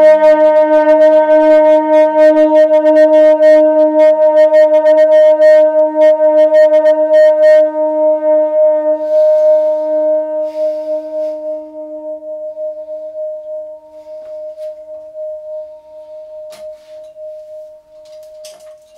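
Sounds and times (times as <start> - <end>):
sustained electronic saxophone note: 0.0 - 18.9.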